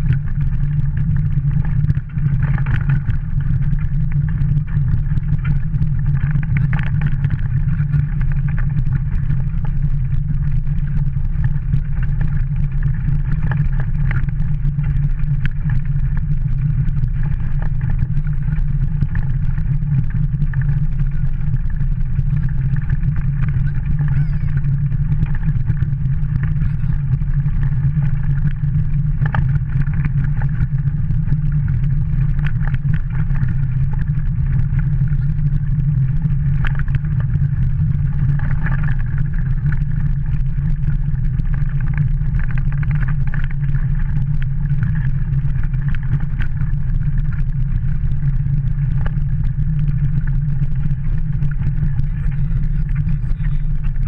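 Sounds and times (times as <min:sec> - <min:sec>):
kart rolling over gravel and snow: 0:00.0 - 0:54.0.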